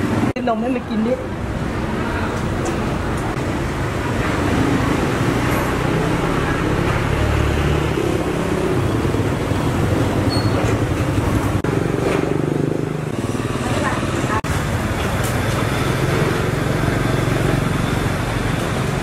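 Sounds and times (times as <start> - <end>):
traffic hum: 0.0 - 19.0
vehicle engine running: 1.4 - 19.0.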